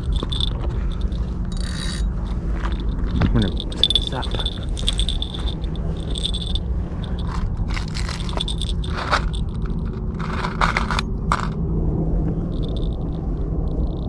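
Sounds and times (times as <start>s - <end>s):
fishing tackle scrapes and clicks: 0.0s - 11.6s, 12.5s - 13.1s
steady low rumble: 0.0s - 14.0s.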